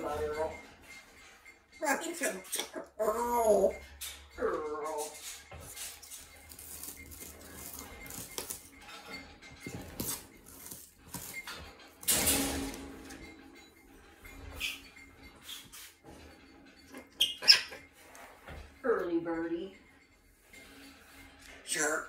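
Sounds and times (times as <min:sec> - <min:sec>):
household things clattering: 0:03.4 - 0:21.8.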